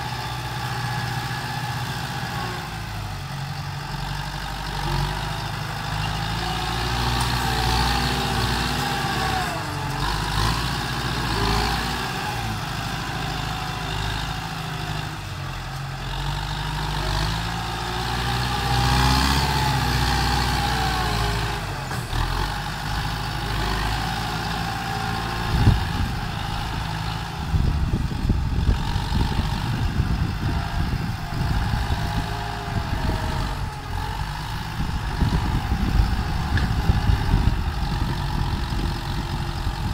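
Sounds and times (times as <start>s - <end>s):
rough irregular low rumbling: 0.0s - 39.9s
tractor diesel engine running: 0.0s - 39.9s.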